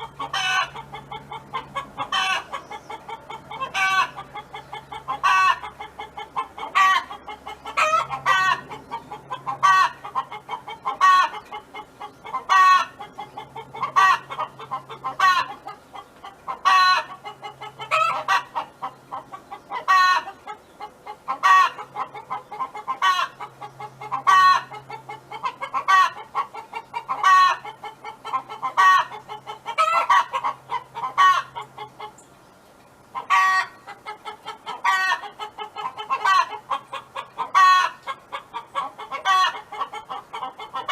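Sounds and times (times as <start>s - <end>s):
hen clucking and calling: 0.0s - 32.4s, 33.0s - 40.9s.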